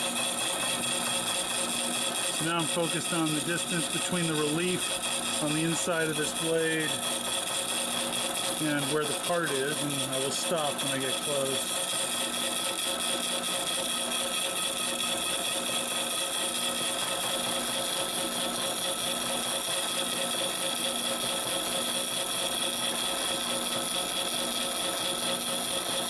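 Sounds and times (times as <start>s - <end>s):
milling machine running: 0.0s - 26.0s
saw cutting metal whine: 0.0s - 26.0s.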